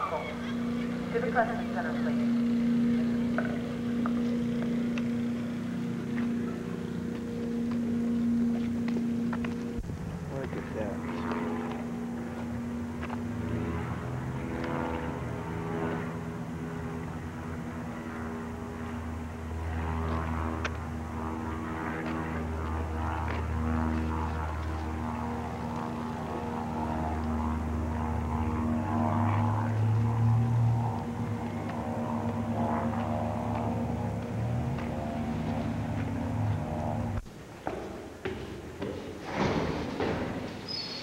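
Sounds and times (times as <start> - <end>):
engine droning with low hum: 0.0 - 41.0.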